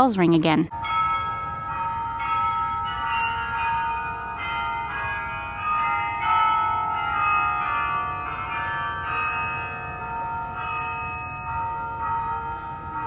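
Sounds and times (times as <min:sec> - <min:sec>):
carillon bells playing slow tune: 0:00.7 - 0:13.0.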